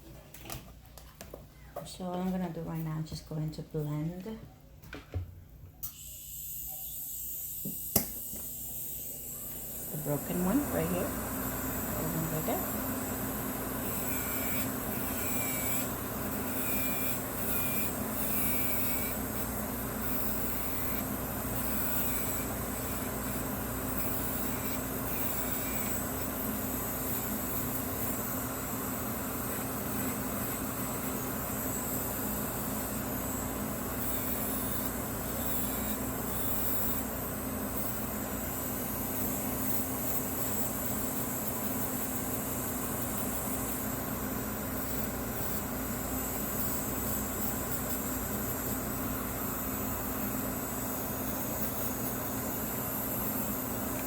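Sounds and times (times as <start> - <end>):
electric nail file whine: 5.8 - 54.0.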